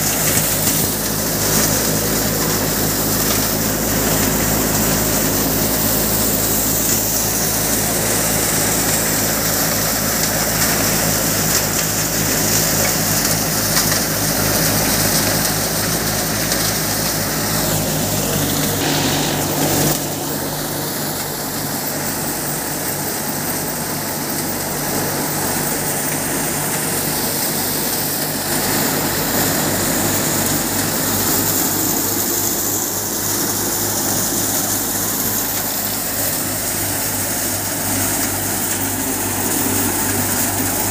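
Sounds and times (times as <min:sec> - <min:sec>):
thresher machine droning: 0:00.0 - 0:40.9.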